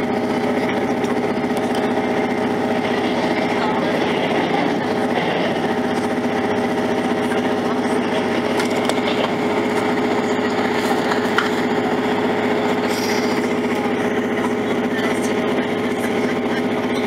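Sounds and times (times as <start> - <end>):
train engine drone from inside: 0.0 - 17.0.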